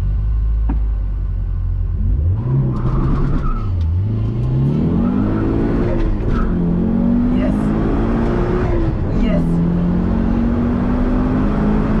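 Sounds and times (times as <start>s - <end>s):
car engine revving: 1.9s - 12.0s.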